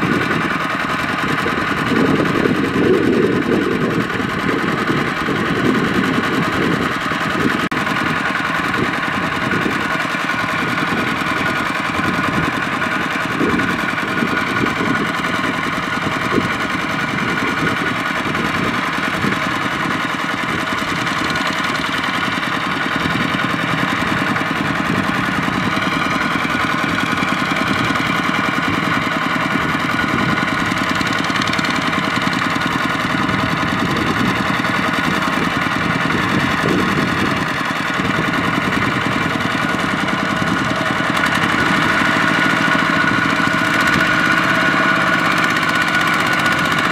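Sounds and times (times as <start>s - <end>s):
single-cylinder diesel engine running: 0.0s - 46.9s.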